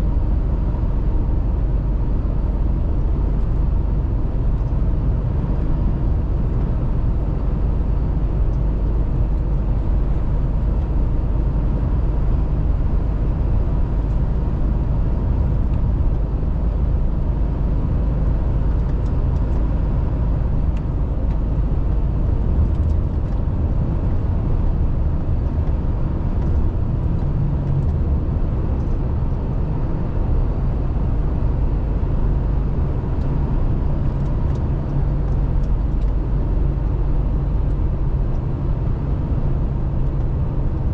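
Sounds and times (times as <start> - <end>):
road and tyre noise: 0.0 - 40.9
truck engine drone: 0.0 - 40.9.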